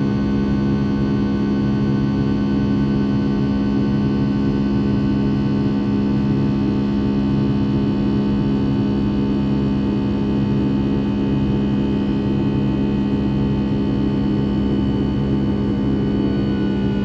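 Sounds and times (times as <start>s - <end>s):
jet engine hum inside cabin: 0.0s - 17.0s.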